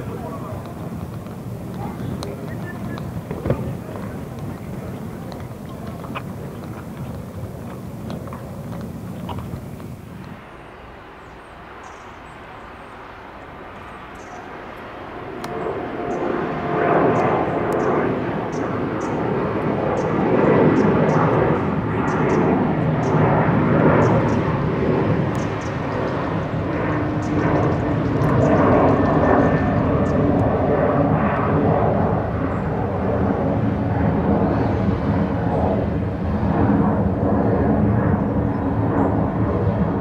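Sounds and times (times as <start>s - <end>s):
aircraft engine rush: 0.0s - 40.0s.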